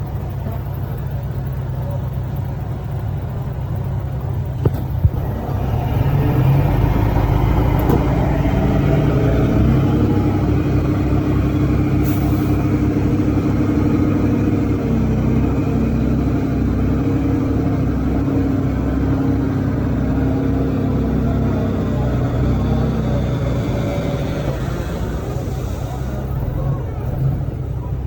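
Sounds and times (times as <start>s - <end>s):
large diesel engine running: 0.0s - 28.0s.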